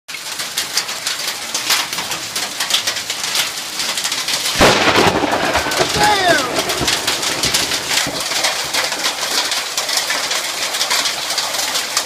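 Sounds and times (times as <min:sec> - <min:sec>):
hailstones ticking: 0:00.1 - 0:12.0
steady rain: 0:00.1 - 0:12.0.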